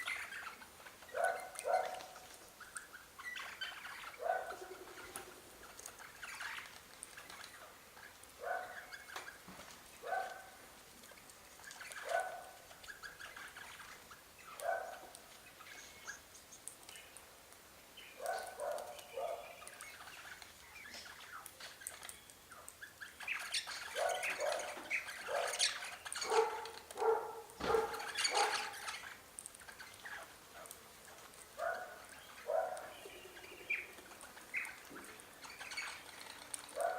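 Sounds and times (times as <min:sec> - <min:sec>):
birds calling: 0:00.0 - 0:36.9.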